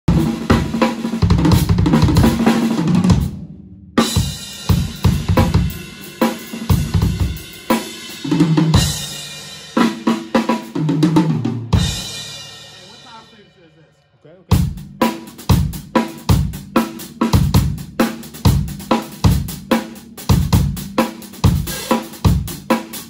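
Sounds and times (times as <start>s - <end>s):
drum kit playing: 0.1s - 23.0s.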